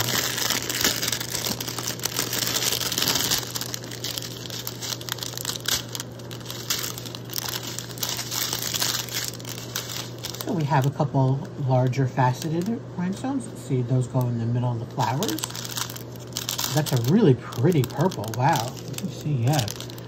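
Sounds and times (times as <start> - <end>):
plastic bags crinkling: 0.0 - 11.4, 12.1 - 12.8, 14.9 - 20.0.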